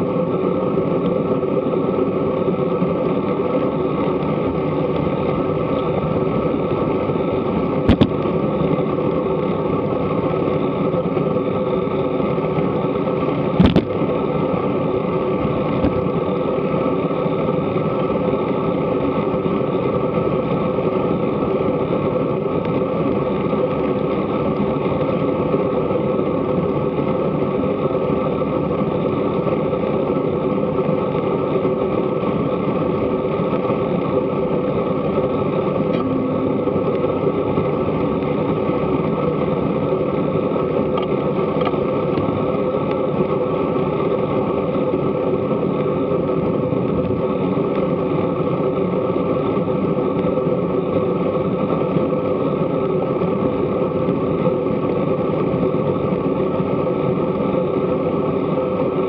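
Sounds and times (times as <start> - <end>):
road rumble: 0.0 - 59.0
wind on microphone: 0.0 - 59.0.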